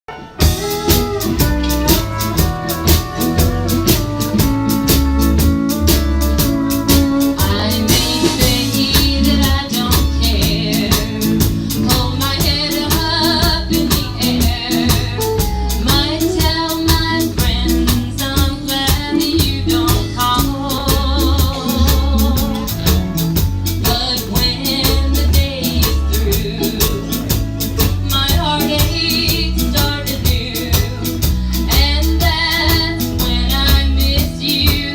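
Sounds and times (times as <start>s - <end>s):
drum kit beat: 0.1s - 34.9s
small band playing: 0.1s - 34.9s.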